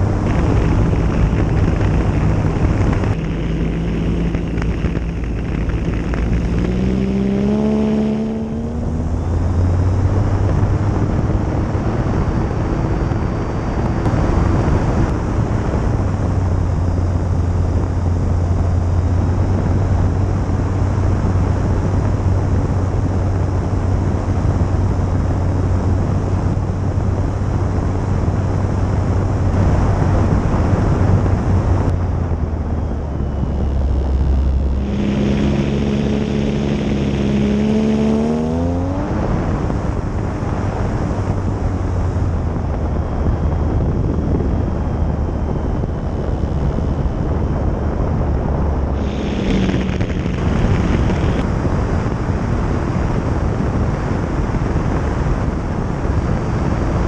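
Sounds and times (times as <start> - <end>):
model plane motor and propeller: 0.0 - 38.5, 39.2 - 57.0
wind rush on microphone: 0.0 - 57.0.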